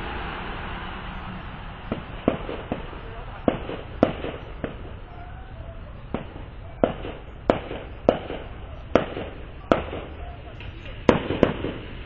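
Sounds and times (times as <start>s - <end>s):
fireworks bangs: 0.0s - 12.0s
steady low background noise: 0.0s - 12.0s.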